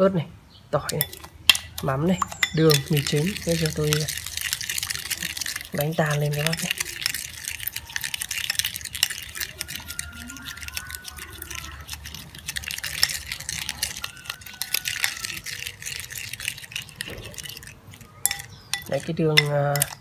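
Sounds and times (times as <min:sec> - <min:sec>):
liquid sloshing: 0:00.9 - 0:20.0
plastic spoon scraping a ceramic bowl: 0:00.9 - 0:20.0.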